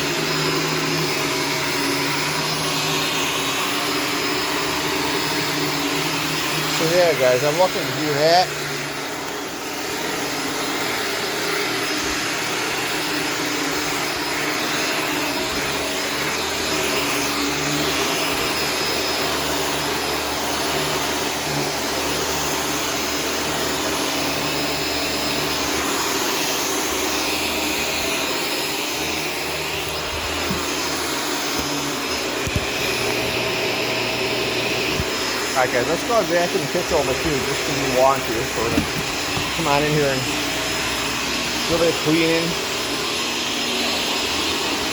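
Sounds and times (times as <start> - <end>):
upright vacuum motor whine: 0.0 - 44.9.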